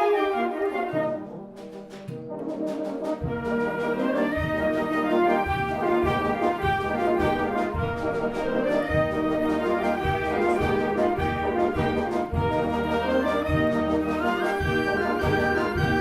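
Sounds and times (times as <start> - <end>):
low brass: 0.0 - 16.0
wind band playing: 0.0 - 16.0.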